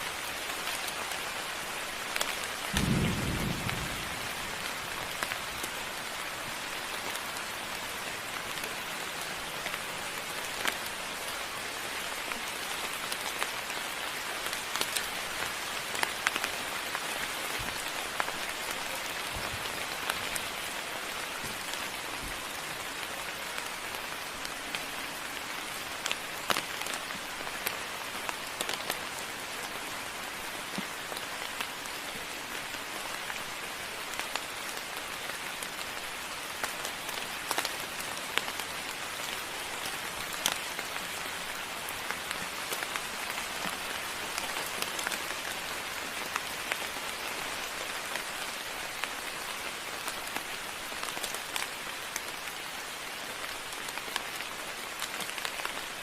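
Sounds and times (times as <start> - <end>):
raindrops hitting close by: 0.0 - 56.0
steady rain hiss: 0.0 - 56.0.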